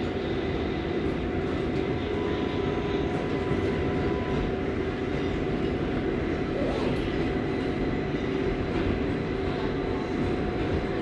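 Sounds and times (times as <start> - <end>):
faint propulsion whine: 0.0 - 11.0
train wheels rumbling on rail: 0.0 - 11.0.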